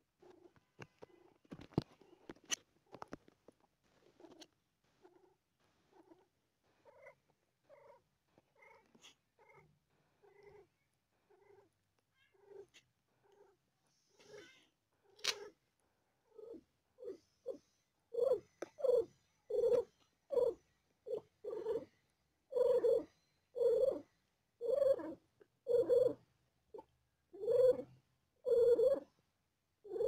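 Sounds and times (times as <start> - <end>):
cat purring: 0.2 - 15.6, 16.2 - 29.1.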